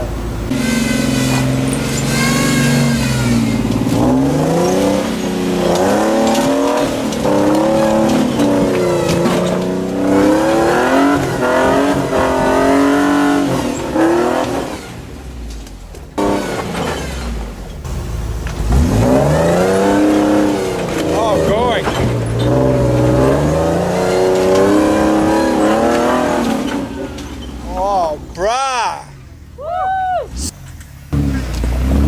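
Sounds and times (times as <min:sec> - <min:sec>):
truck engine revving: 0:00.0 - 0:29.5, 0:30.3 - 0:32.0.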